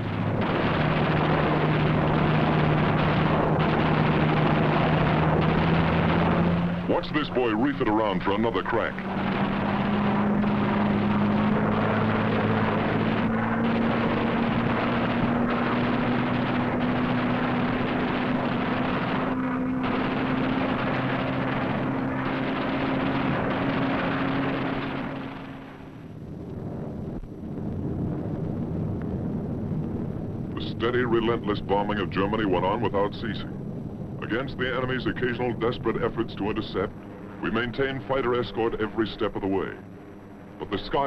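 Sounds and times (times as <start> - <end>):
propeller plane engine drone: 0.0 - 41.0.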